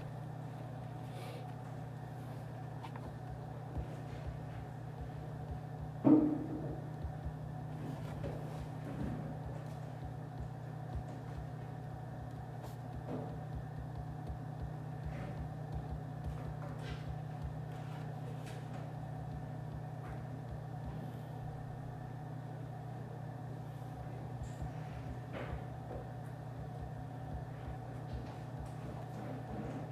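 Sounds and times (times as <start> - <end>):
low ventilation hum: 0.0 - 29.9
faint clicks and taps: 2.5 - 21.2, 24.4 - 29.9.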